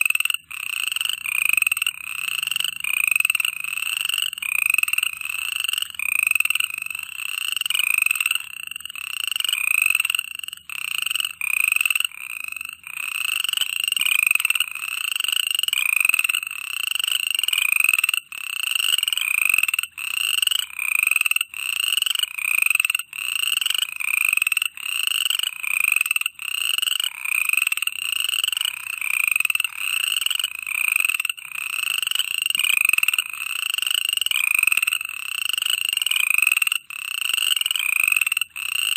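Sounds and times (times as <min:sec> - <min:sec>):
frogs calling: 0:00.0 - 0:38.9.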